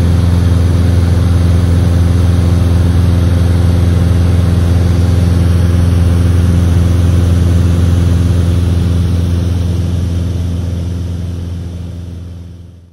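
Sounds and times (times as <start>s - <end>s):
airplane engine drone in cabin: 0.0s - 12.9s.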